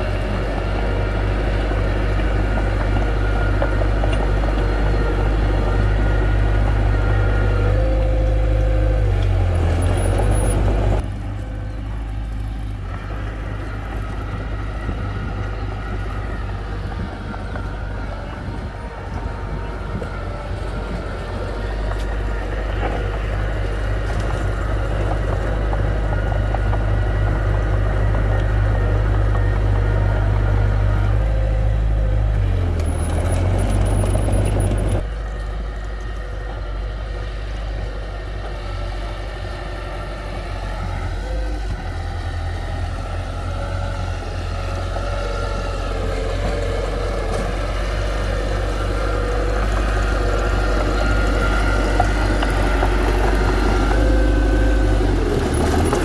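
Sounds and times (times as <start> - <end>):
heavy machinery diesel engine humming: 0.0 - 56.0.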